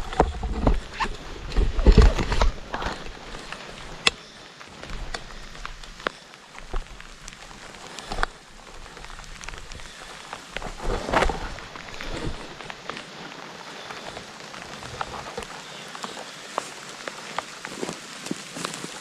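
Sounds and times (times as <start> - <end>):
rough noise: 0.0 - 16.4
heavy rain falling: 0.0 - 19.0.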